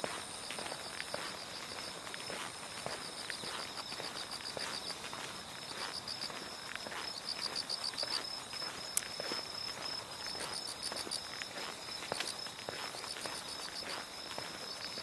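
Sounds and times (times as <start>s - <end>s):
insects chirping: 0.0s - 15.0s
shoe footsteps walking: 0.0s - 15.0s
steady high insect trill: 0.0s - 15.0s.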